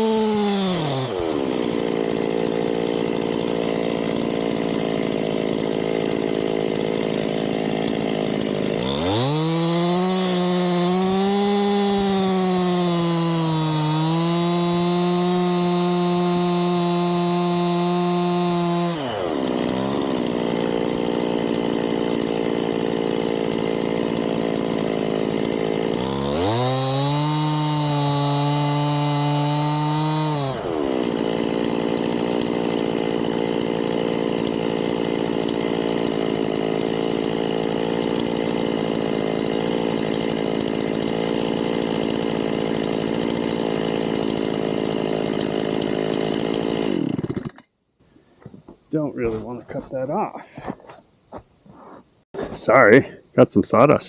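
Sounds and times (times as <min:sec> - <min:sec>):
chainsaw revving and idling: 0:00.0 - 0:47.7.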